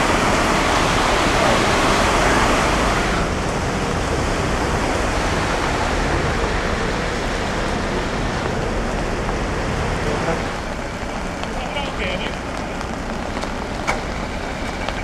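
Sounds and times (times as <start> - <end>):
floodwater rushing and splashing: 0.0 - 15.0.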